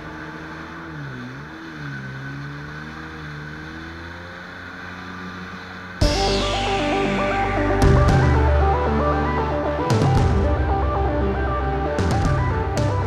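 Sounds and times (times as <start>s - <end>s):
jet ski engine: 0.0s - 13.0s.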